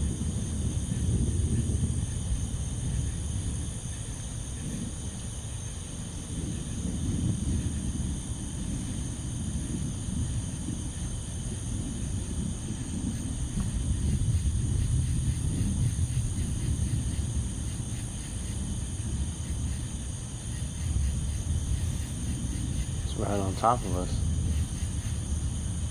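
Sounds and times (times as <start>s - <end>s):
low uneven rumble: 0.0s - 25.9s
night insects chirring: 0.0s - 25.9s.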